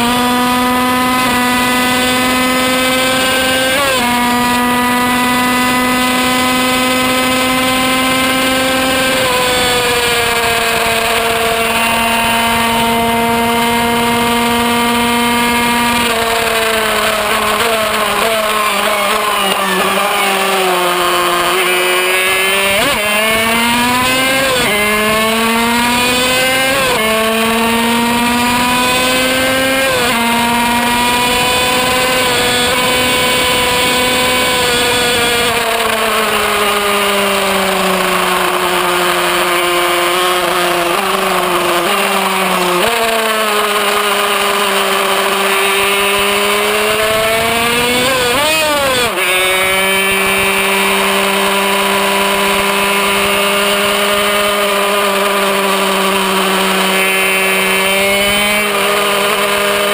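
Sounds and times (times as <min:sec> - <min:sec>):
motorcycle engine revving high: 0:00.0 - 0:59.9.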